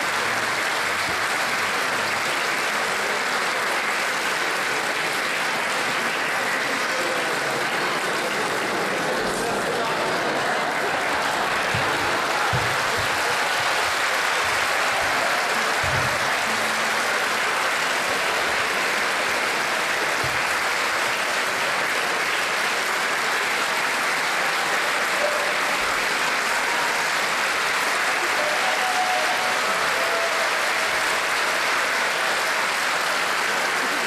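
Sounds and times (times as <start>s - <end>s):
audience applauding: 0.0s - 34.0s.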